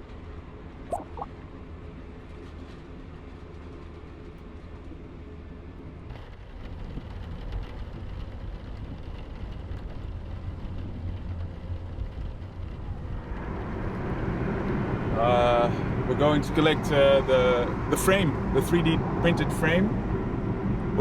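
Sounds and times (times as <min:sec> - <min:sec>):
vehicle rumble and road noise: 0:00.0 - 0:21.0.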